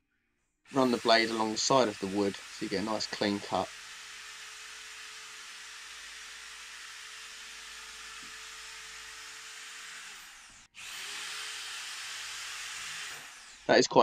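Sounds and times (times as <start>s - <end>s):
electric foam cutter running: 0.7s - 13.8s.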